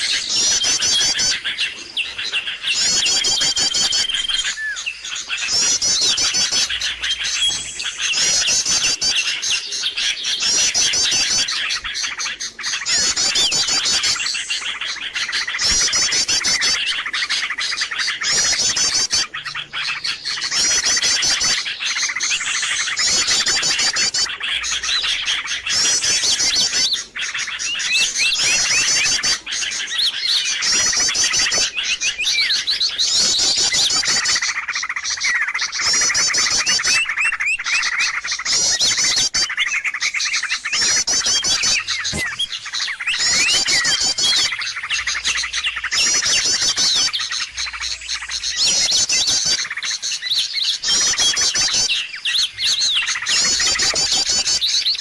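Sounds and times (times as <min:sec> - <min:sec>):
many small birds chirping: 0:00.0 - 0:55.0
rapid high bird trills: 0:00.0 - 0:55.0.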